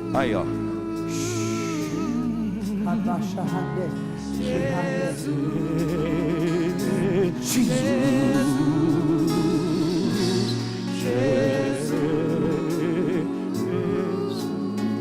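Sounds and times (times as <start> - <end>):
person singing with vibrato: 0.0 - 15.0
sustained musical backing: 0.0 - 15.0.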